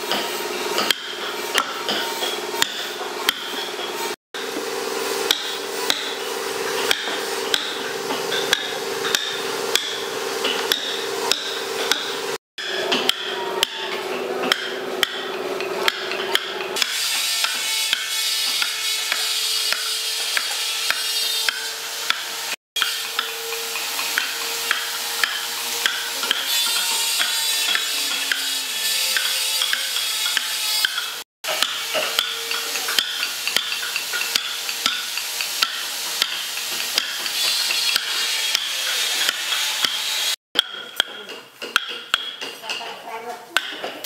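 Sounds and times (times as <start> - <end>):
mallet striking chisel into wood: 0.8 - 3.7, 5.3 - 6.2, 6.9 - 22.2, 22.8 - 28.5, 29.2 - 42.8, 43.6 - 43.9.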